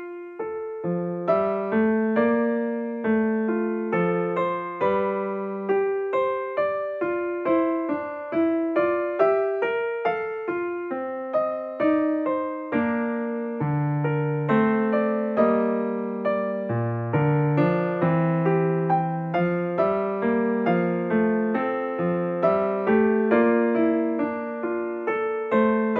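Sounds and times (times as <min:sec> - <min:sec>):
gentle piano melody: 0:00.0 - 0:25.9.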